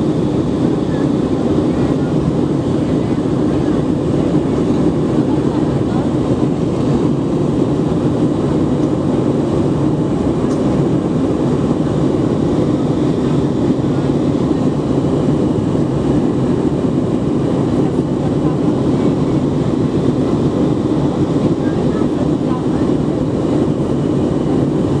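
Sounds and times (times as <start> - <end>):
jet airliner cabin noise: 0.0 - 25.0.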